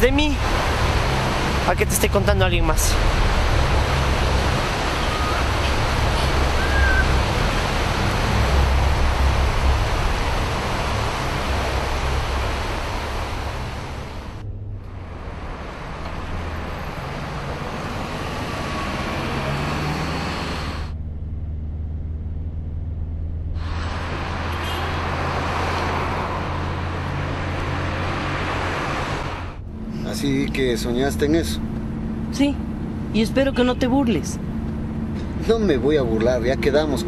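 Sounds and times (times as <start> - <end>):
van cabin low rumble: 0.0 - 18.2, 20.6 - 25.3, 26.7 - 37.0.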